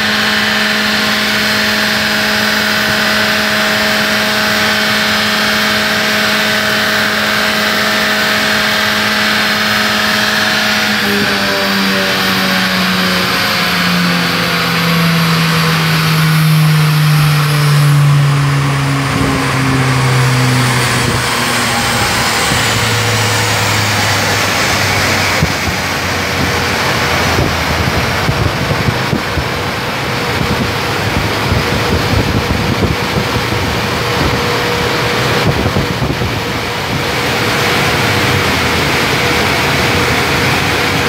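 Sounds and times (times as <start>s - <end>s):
car engine running: 0.0s - 41.0s
dense rushing noise: 0.0s - 41.0s
thin whine: 0.0s - 41.0s.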